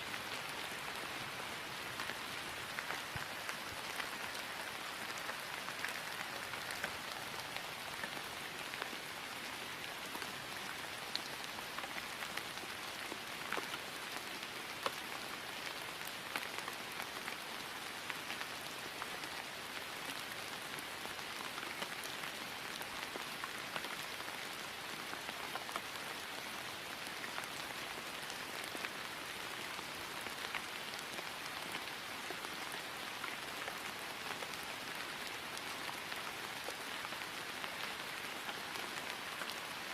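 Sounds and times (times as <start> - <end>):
rain falling on grass: 0.0 - 39.9.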